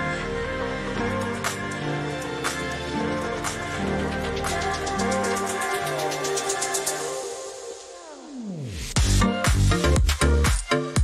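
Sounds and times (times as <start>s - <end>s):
electronic dance music: 1.1s - 11.0s.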